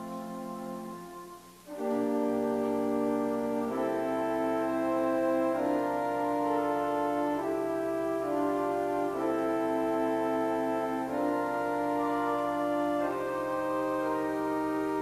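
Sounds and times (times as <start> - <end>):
church organ chords: 0.0 - 15.0.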